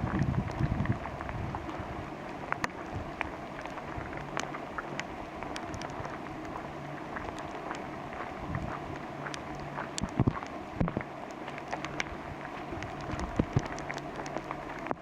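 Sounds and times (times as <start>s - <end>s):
rain falling in forest: 0.0s - 15.0s
raindrops ticking close by: 0.0s - 15.0s.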